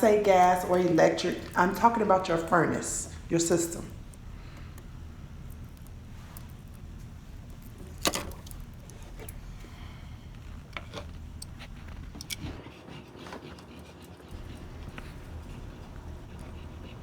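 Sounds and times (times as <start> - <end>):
low steady hum: 0.0 - 12.6, 14.3 - 17.0.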